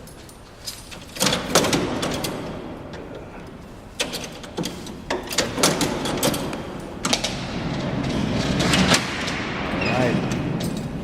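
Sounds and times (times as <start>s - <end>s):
steel cell doors rolling: 0.8s - 3.3s, 3.9s - 11.0s.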